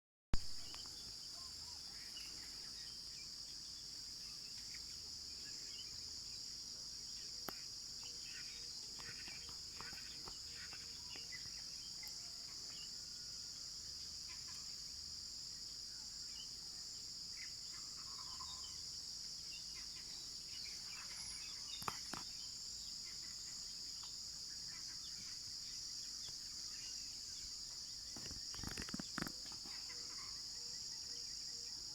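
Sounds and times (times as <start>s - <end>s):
insect chorus trill: 0.4s - 31.9s.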